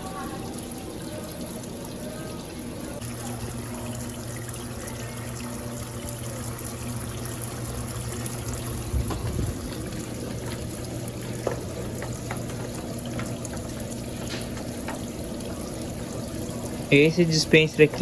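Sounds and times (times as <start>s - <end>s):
water pouring into washing machine: 0.0s - 18.0s.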